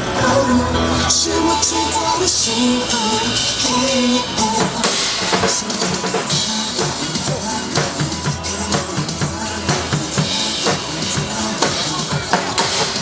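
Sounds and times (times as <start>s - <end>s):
drum kit beat: 0.0s - 13.0s
recorded song: 0.0s - 13.0s.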